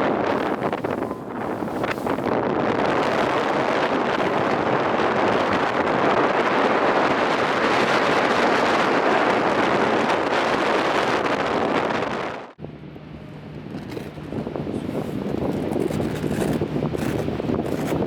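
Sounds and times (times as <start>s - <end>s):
boat engine running: 0.0s - 11.9s, 12.6s - 18.0s
wind buffeting microphone: 0.0s - 18.0s.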